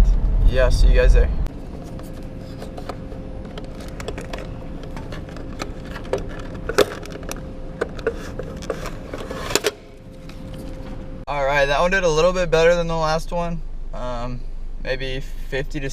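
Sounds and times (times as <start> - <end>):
steady faint hum: 0.0 - 15.9.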